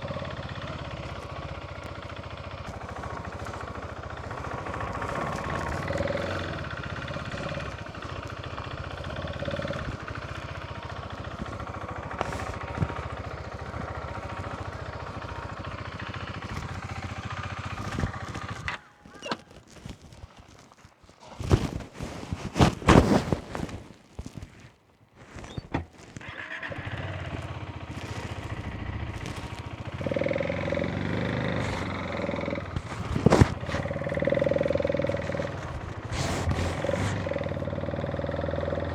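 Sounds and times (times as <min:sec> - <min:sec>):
motorcycle engine running: 0:00.0 - 0:24.4, 0:25.3 - 0:38.9.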